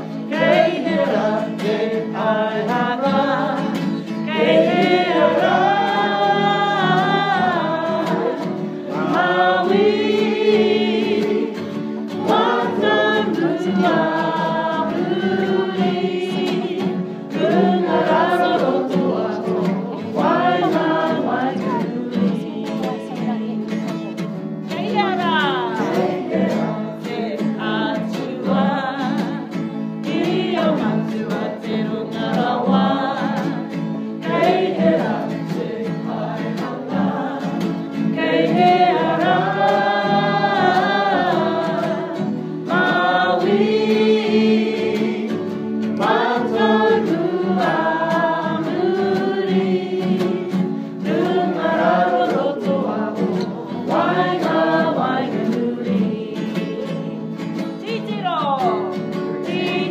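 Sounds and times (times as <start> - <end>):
group singing: 0.0 - 59.9
strummed acoustic guitar: 0.0 - 59.9.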